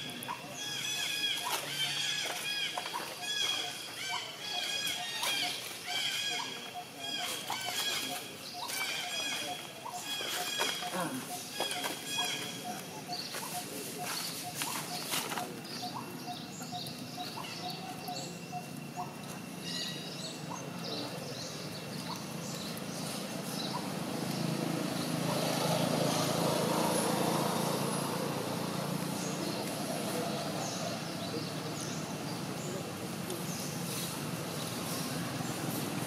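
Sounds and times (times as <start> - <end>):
broad noise: 0.0 - 36.0
small birds chirping: 0.0 - 36.0.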